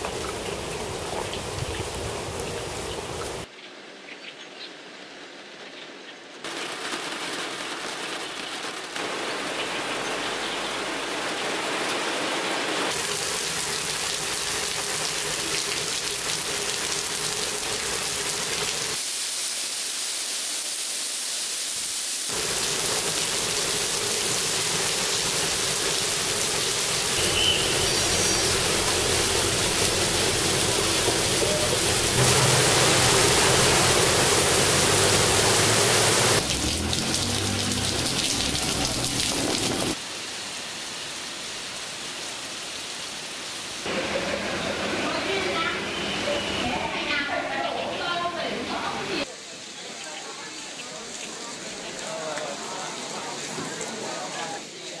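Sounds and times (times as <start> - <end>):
rain hissing: 0.0 - 3.5, 6.4 - 55.0.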